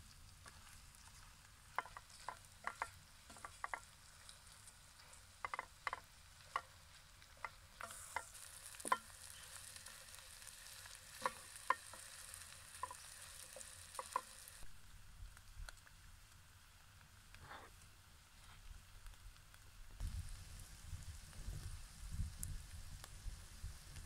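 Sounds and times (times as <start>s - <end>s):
potatoes sizzling: 0.0s - 24.0s.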